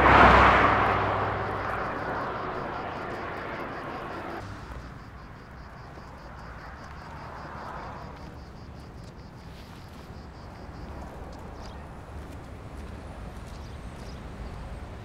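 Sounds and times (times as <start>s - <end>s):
insects chirping: 0.0s - 15.0s
low traffic rumble: 0.0s - 15.0s
passing traffic: 0.0s - 15.0s.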